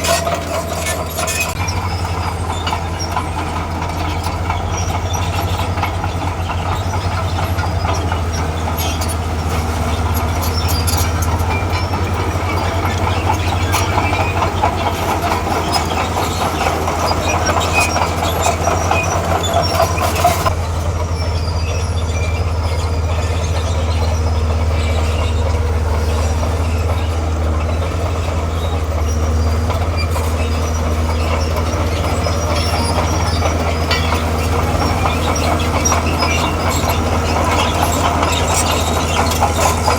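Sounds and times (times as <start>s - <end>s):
crawler tracks rattling and clanking: 0.0s - 39.9s
diesel engine running under load: 0.0s - 39.9s.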